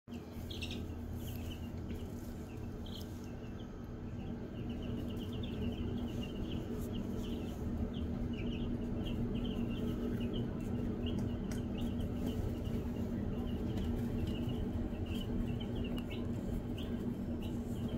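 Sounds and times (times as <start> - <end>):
chicks peeping: 0.1 - 17.9
steady low hum: 0.1 - 17.9.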